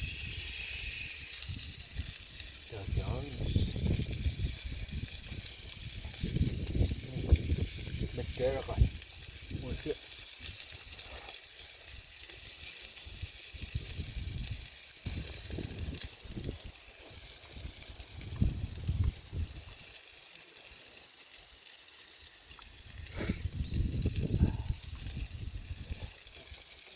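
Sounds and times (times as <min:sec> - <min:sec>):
meat sizzling on a grill: 0:00.0 - 0:26.9.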